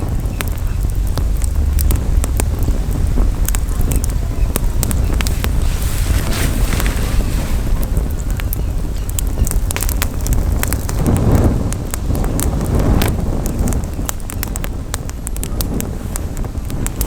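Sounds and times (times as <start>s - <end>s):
campfire crackling and popping: 0.0s - 17.0s
wind rumble on microphone: 0.0s - 17.0s.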